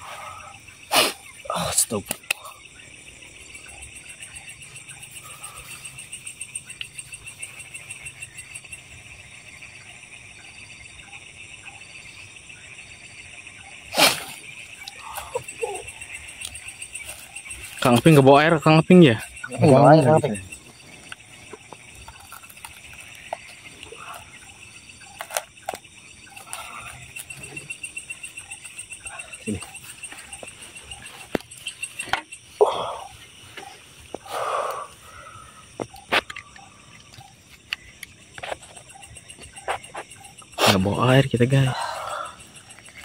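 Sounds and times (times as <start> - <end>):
crickets chirping: 0.0 - 43.0
high rapid cricket trill: 0.0 - 43.0
lower cricket trill: 0.0 - 43.0.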